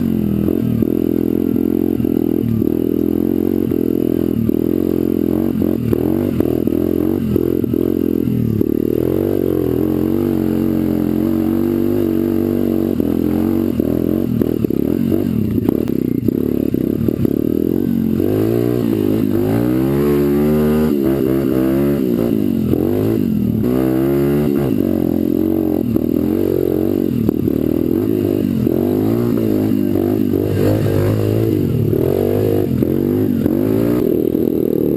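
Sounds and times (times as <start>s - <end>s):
pit bike engine revving: 0.0s - 34.9s.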